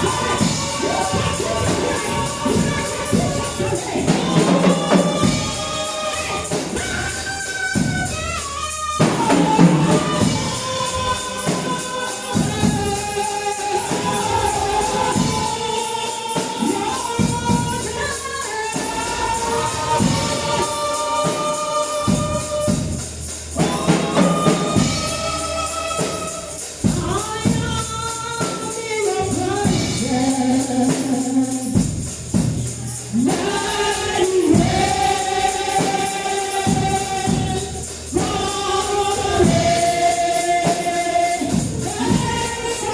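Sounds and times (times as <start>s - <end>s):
gospel choir singing: 0.0s - 42.9s
tambourine shaken: 0.0s - 42.9s.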